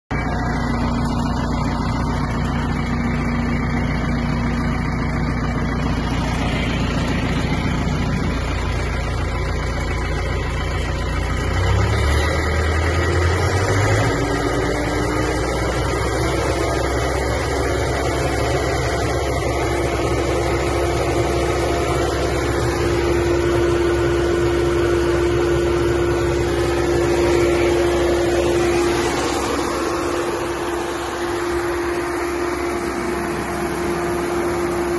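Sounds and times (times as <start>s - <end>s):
high-pitched whine: 0.1s - 34.9s
tractor diesel engine running: 0.1s - 34.9s.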